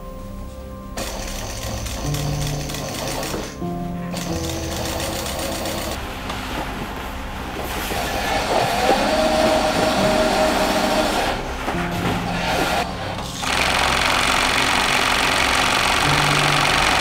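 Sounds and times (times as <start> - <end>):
sustained whine: 0.0 - 17.0.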